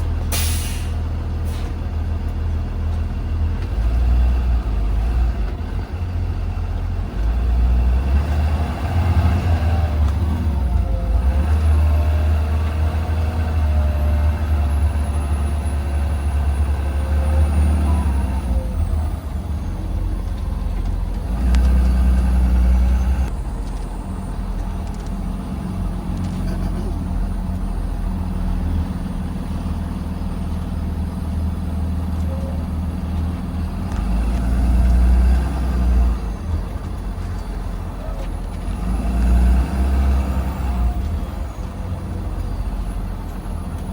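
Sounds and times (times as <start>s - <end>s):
bus engine rumble: 0.0s - 43.9s
road noise: 0.0s - 43.9s.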